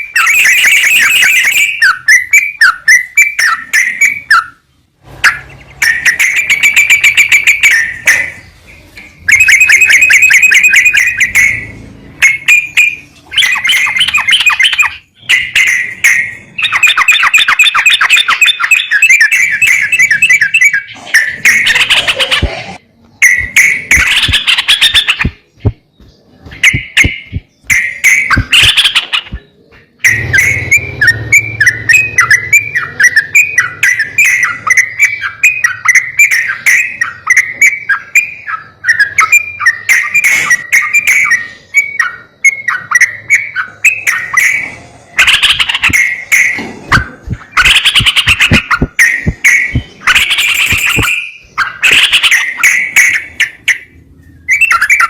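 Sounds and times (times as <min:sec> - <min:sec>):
bulbul calling: 0:00.0 - 0:04.6, 0:05.2 - 0:55.0.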